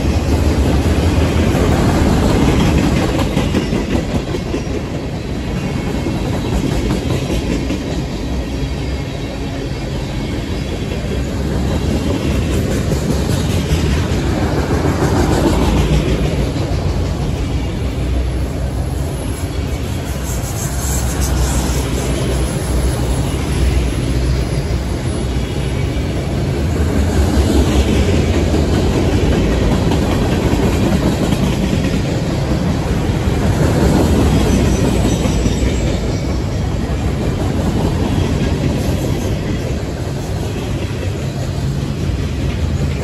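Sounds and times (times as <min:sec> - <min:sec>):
freight train wheels on rails: 0:00.0 - 0:43.0.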